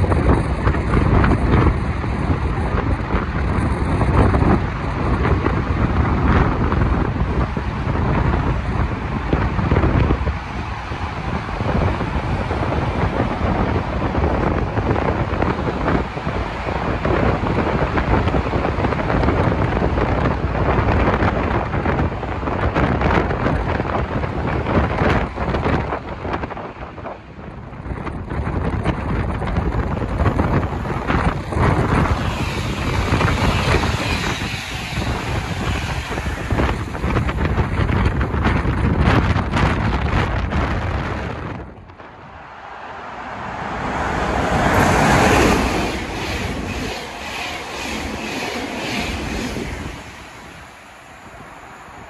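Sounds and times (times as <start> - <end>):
diesel train passing: 0.0 - 52.0
electric locomotive passing: 0.0 - 52.0
wind buffeting microphone: 0.0 - 52.0.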